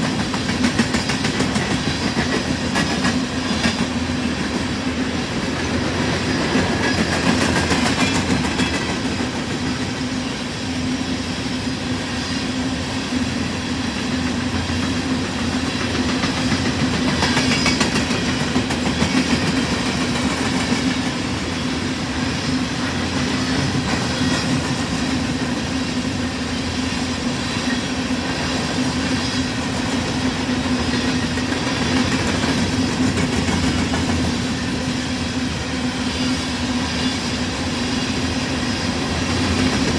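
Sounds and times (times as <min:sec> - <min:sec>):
freight train rumbling and clattering: 0:00.0 - 0:39.9.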